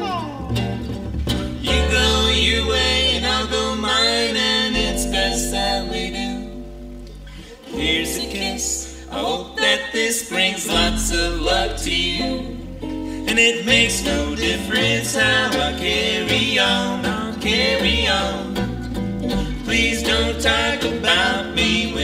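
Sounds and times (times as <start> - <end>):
guitars strumming and picking: 0.0 - 22.0
plucked upright bass: 0.0 - 22.0.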